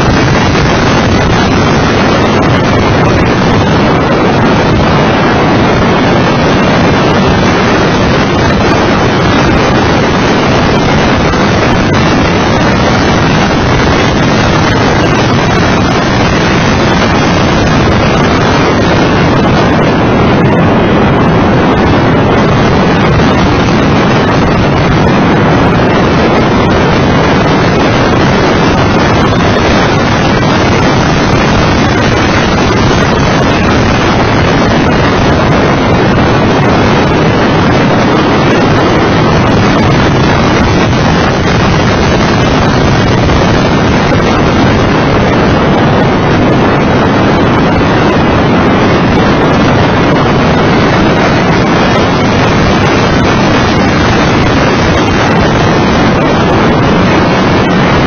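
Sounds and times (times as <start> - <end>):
car engine at track speed: 0.0 - 58.0
wind buffeting on microphone: 0.0 - 58.0.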